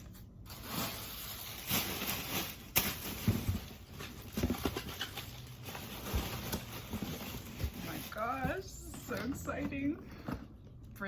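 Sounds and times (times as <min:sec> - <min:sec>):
cardboard packaging rustling: 0:00.0 - 0:10.6.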